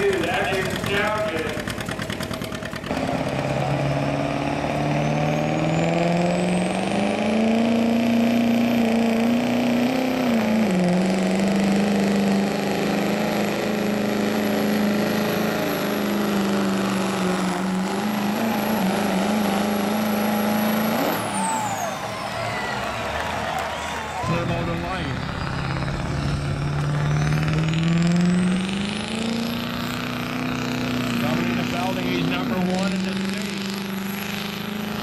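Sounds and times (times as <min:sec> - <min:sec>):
diesel engine running hard: 0:00.0 - 0:35.0.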